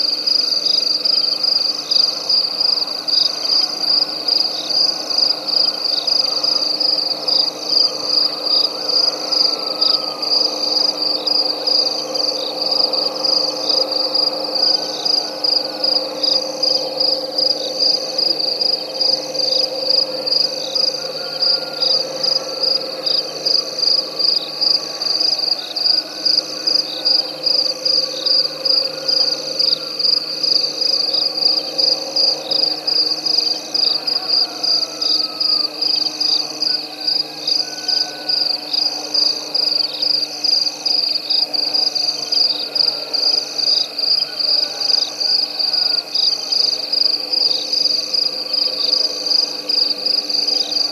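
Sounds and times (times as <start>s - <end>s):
chorus of frogs: 0.0s - 50.9s
high-pitched insect trill: 0.0s - 50.9s.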